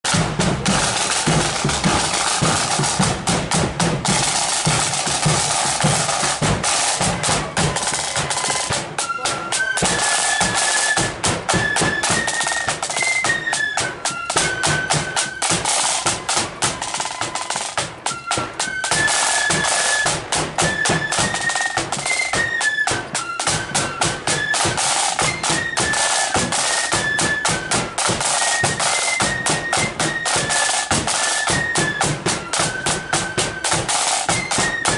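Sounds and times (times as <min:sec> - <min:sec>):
snare drum rolls: 0:00.0 - 0:34.9
high flute melody: 0:00.1 - 0:34.9.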